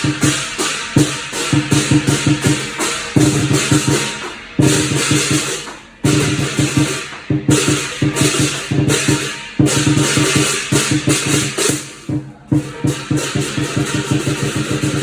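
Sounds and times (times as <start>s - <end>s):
cymbals clashing: 0.0s - 15.0s
drum beating fast rhythm: 0.0s - 15.0s.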